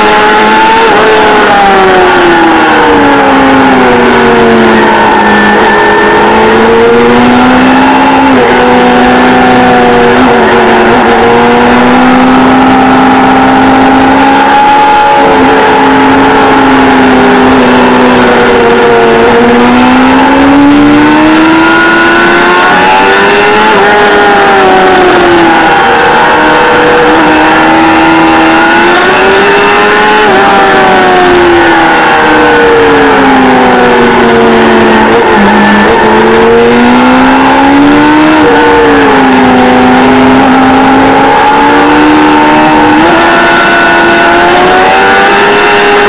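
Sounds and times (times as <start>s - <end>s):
motorcycle engine revving hard: 0.0s - 46.0s.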